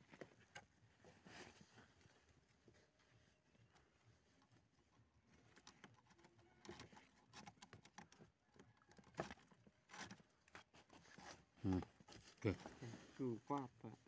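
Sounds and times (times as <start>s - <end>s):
clicks and scraping on bamboo: 0.0s - 14.0s.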